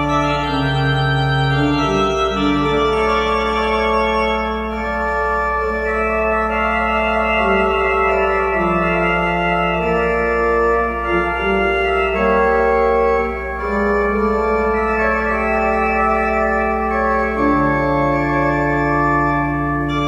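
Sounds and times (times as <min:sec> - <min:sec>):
church organ chords: 0:00.0 - 0:20.0.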